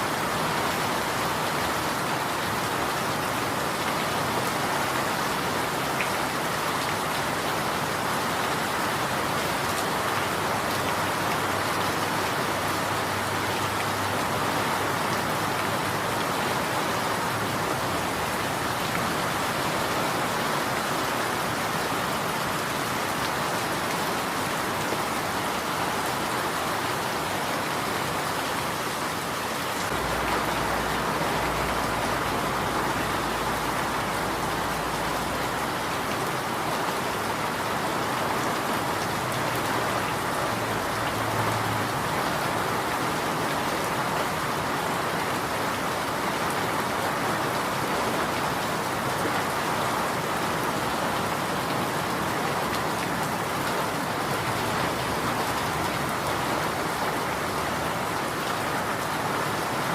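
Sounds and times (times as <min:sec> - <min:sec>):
dense rainfall: 0:00.0 - 0:59.9.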